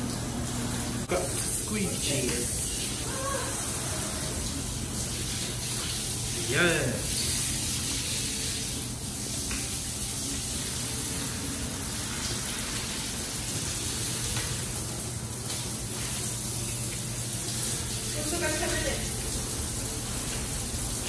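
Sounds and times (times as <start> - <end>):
water running and spraying: 0.0 - 21.0.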